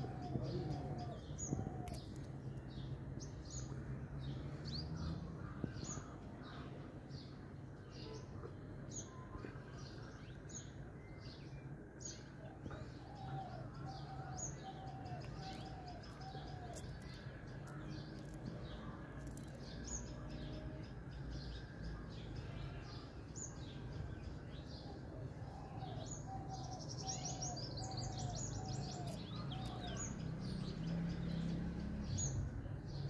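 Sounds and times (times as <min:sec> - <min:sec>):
birds chirping: 0:00.0 - 0:33.0
lower evenly spaced bird notes: 0:00.0 - 0:33.0.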